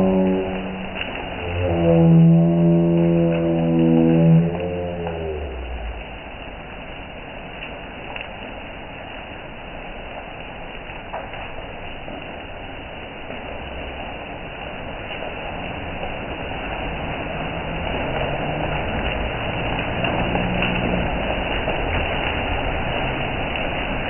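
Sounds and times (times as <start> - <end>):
hail and rain on pavement: 0.0 - 1.8, 2.6 - 24.0.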